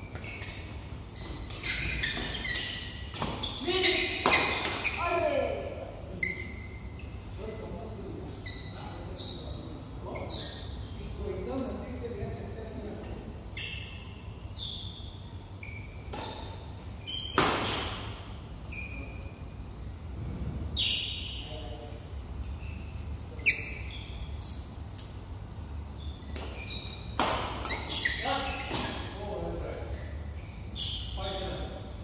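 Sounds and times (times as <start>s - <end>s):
shoe squeaks: 0.0s - 5.5s, 6.1s - 11.2s, 13.0s - 19.6s, 20.7s - 32.0s.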